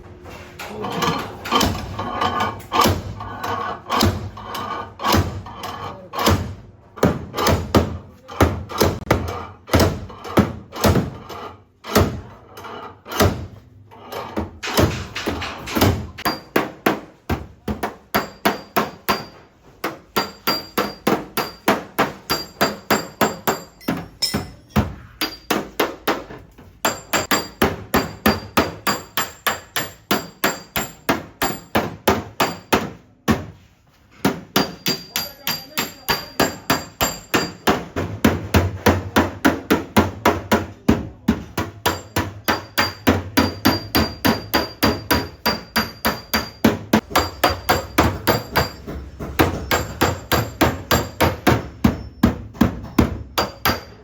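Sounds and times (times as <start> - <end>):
hammer beating sheet metal: 1.0 - 12.4, 13.0 - 13.7, 14.3 - 54.0.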